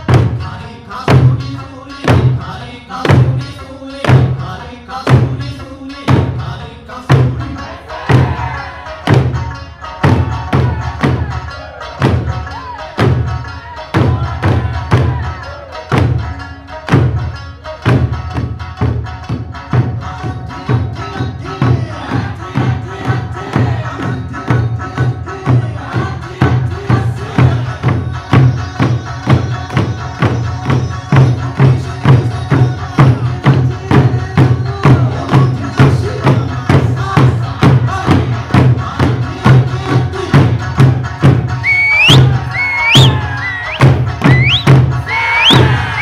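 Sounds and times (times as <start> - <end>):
barrel drums and hand drums: 0.0 - 46.0
folk song music: 0.0 - 46.0.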